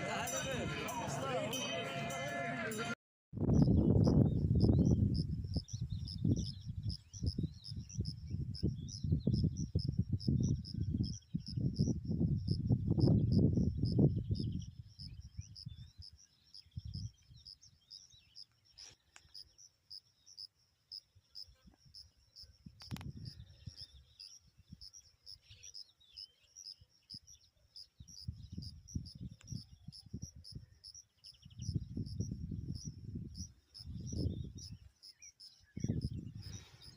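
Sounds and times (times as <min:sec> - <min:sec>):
cricket chirping: 0:03.5 - 0:36.9.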